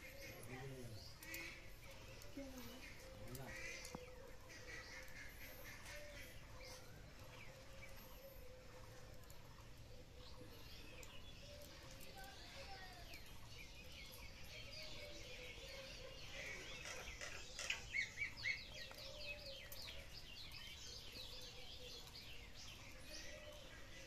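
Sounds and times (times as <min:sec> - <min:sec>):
faint outdoor background noise: 0:00.0 - 0:24.0
small birds chirping: 0:00.0 - 0:24.0.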